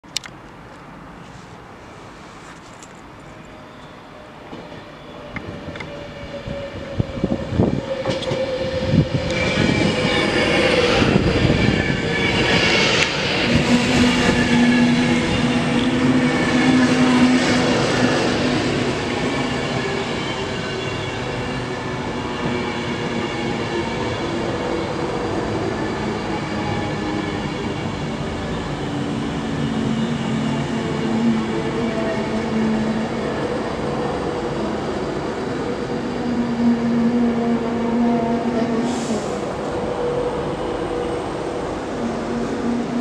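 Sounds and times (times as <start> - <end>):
rumble of train wheels on rail: 4.2 - 43.0.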